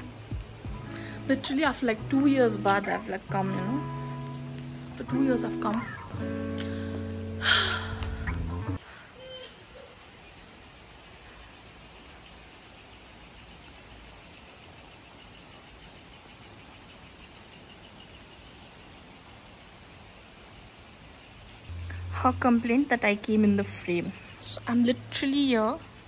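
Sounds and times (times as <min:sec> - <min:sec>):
insects chirping: 0:00.0 - 0:26.0
rain hissing: 0:00.0 - 0:26.0.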